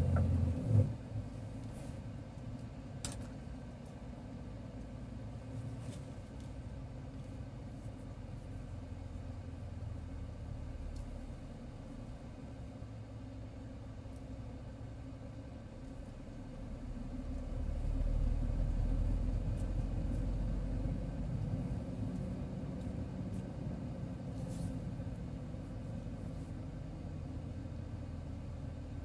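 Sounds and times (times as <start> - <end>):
vehicle engine and tyres rumbling: 0.0 - 29.0.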